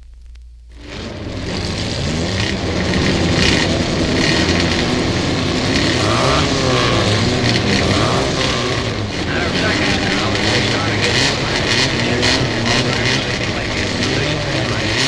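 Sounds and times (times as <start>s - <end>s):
race car engine revving: 0.7s - 15.0s.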